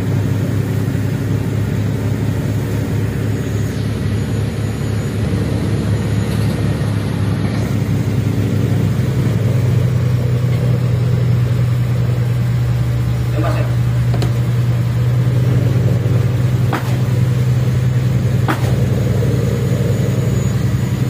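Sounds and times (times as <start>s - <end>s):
boat engines droning: 0.0s - 21.0s.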